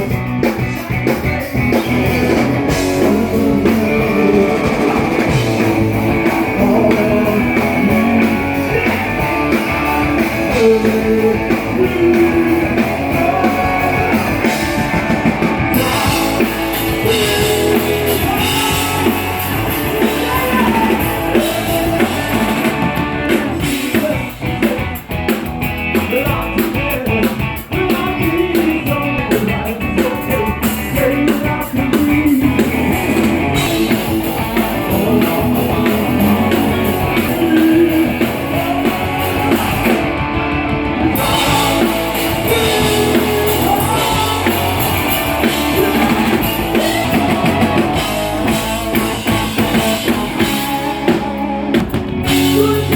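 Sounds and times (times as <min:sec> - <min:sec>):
person singing: 0:00.0 - 0:24.9, 0:26.0 - 0:40.3, 0:40.9 - 0:52.9
live rock band playing: 0:00.0 - 0:52.9.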